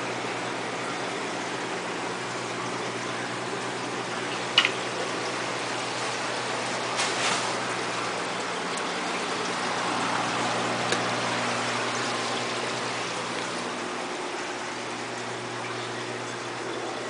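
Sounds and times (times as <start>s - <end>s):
low pump hum: 0.0s - 17.0s
water splashing and trickling: 0.0s - 17.0s.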